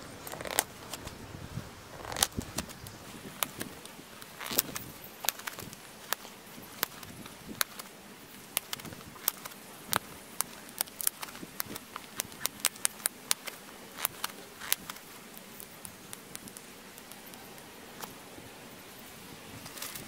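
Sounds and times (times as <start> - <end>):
sharp clicks of flint flaking: 2.0 - 18.2.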